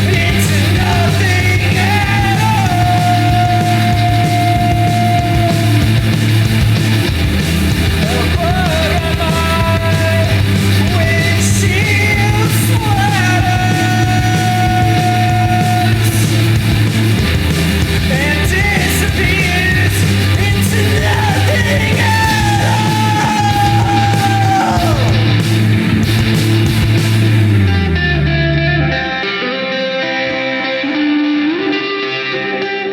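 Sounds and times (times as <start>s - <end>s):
yelled punk vocal: 0.0s - 28.9s
punk rock band playing: 0.0s - 32.9s.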